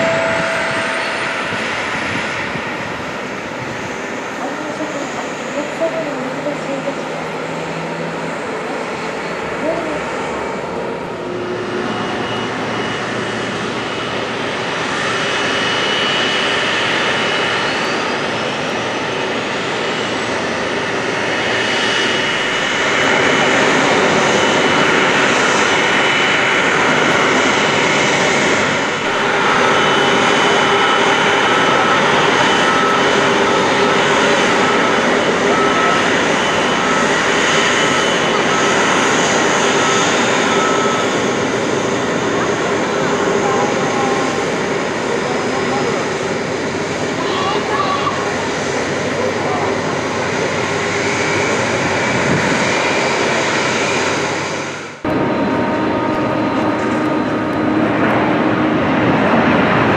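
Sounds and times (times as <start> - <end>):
jet engines running with high whine: 0.0 - 59.9.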